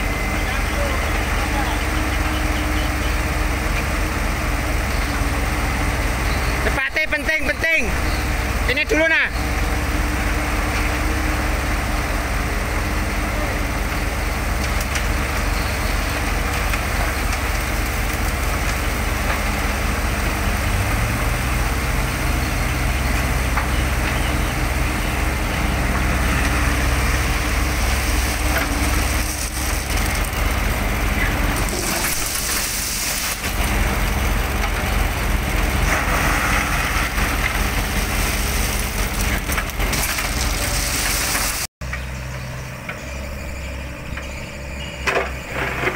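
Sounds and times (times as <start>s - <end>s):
excavator diesel engine digging: 0.0s - 45.9s
truck engine idling: 0.0s - 45.9s.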